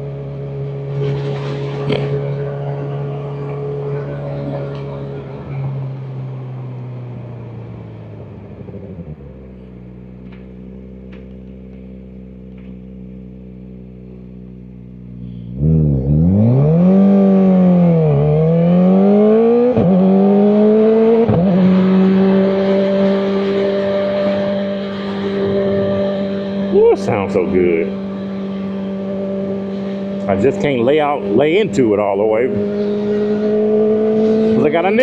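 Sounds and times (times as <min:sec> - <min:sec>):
motorcycle engine idling and revving: 0:00.0 - 0:35.0.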